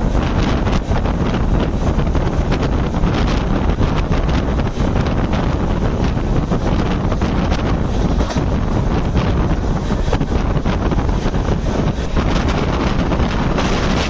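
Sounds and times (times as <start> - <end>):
train rumbling on rails: 0.0 - 14.0
wind buffeting microphone: 0.0 - 14.0.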